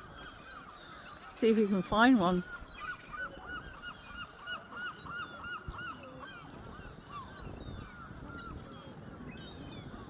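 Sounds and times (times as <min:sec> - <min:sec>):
seagulls calling: 0:00.0 - 0:10.0.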